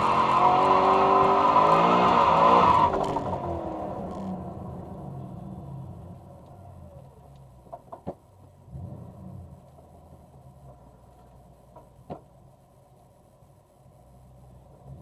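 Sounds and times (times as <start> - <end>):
car engine idling: 2.9 - 15.0.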